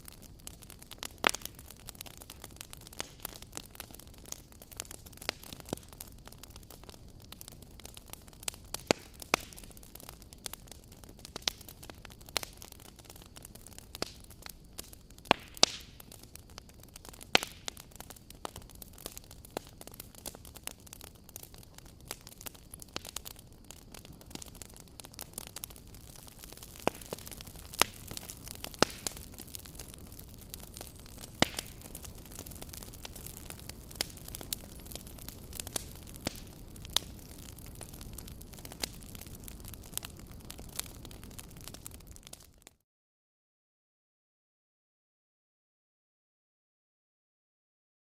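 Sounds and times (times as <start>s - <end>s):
wood fire crackling: 0.0s - 42.7s.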